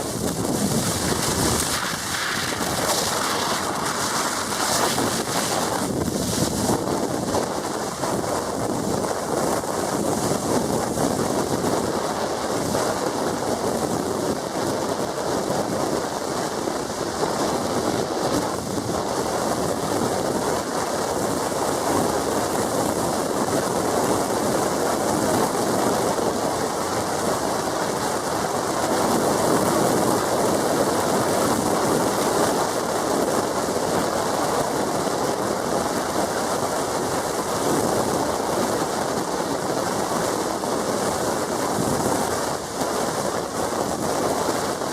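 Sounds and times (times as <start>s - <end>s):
road and wind noise: 0.0s - 44.9s.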